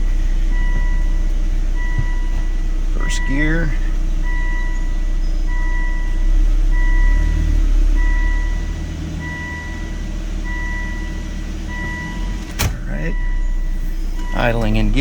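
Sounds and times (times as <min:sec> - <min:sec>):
car engine idling: 0:00.0 - 0:15.0
two-tone warning beep: 0:00.5 - 0:01.2, 0:01.8 - 0:15.0.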